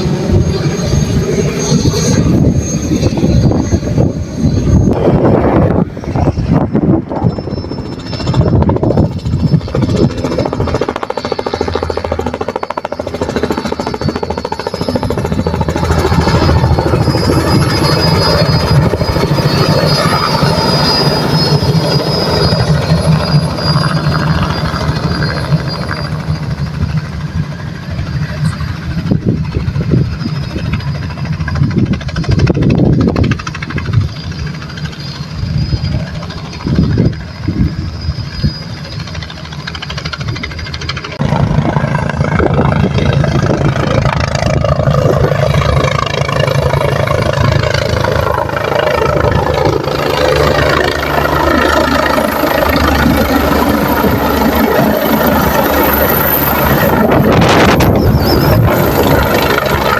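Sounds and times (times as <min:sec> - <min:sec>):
helicopter rotor beat: 0:00.0 - 0:59.9
helicopter turbine whine: 0:00.0 - 0:59.9.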